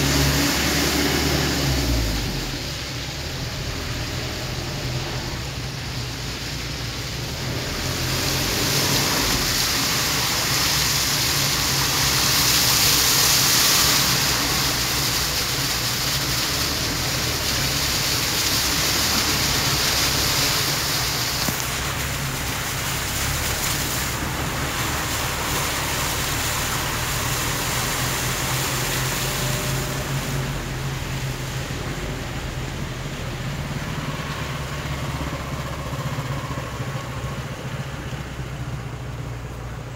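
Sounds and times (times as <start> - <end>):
car engine hum: 0.0 - 39.9
hiss of water under tires: 0.0 - 39.9.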